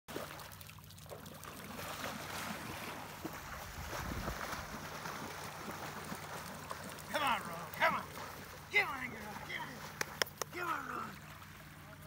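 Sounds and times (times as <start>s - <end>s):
person wading through water: 0.1s - 12.0s
puppy paddling in water: 0.1s - 12.0s.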